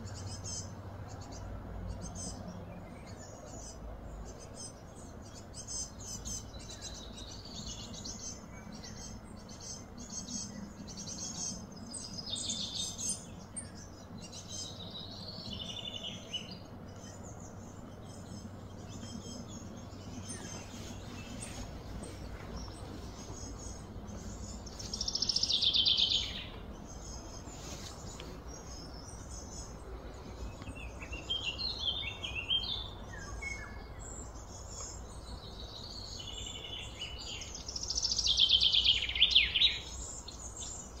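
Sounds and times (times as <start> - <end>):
low background rumble: 0.0 - 38.4
bird chirping: 0.0 - 41.0.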